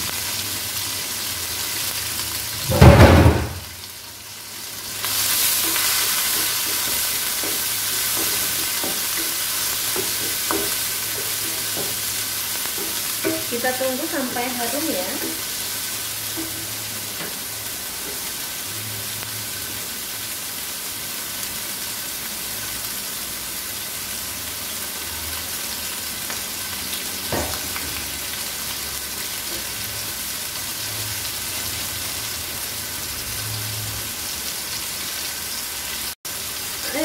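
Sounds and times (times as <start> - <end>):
oil sizzling in a wok: 0.0 - 37.0.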